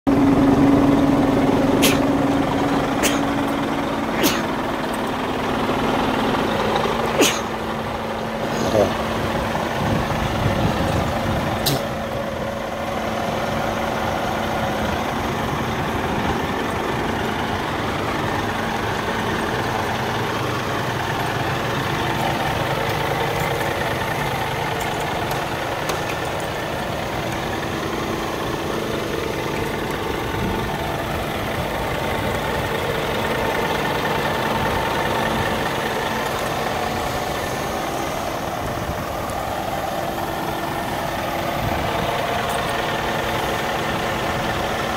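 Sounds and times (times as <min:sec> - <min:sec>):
diesel truck engine idling: 0:00.1 - 0:44.9.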